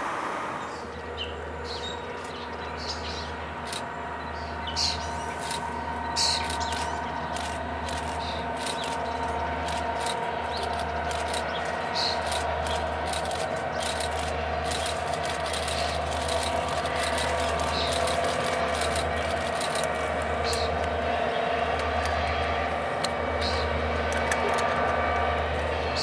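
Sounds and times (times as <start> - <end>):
distant diesel locomotives running: 0.0 - 26.0
birds chirping: 0.5 - 24.8.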